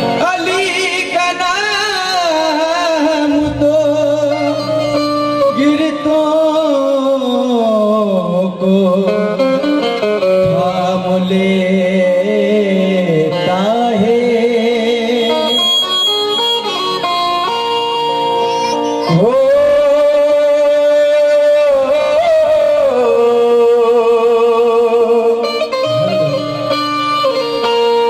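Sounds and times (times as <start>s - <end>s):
man singing melismatic line: 0.0s - 17.6s, 18.2s - 26.8s
harmonium: 0.0s - 28.0s.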